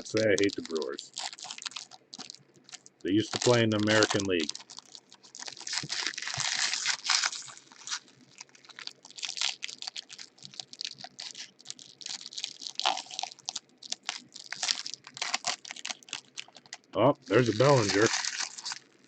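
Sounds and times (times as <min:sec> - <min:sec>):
card pack wrappers crinkling: 0:00.0 - 0:19.0.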